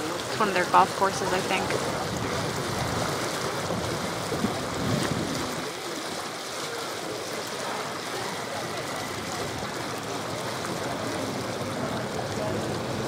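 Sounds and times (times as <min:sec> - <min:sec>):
water washing along hull: 0:00.0 - 0:13.0.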